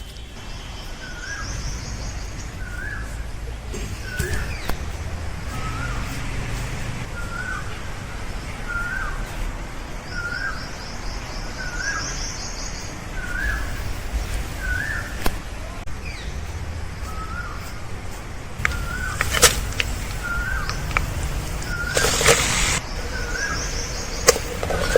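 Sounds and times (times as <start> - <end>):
higher rapid bird trill: 0.0 - 15.2, 15.9 - 24.9
bird chirping: 0.0 - 24.9
steady low rumble: 0.3 - 10.9, 12.9 - 24.9.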